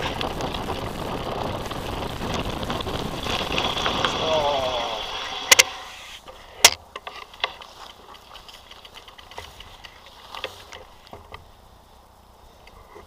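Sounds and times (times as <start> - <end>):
bike clicks and rattles: 0.0 - 11.5.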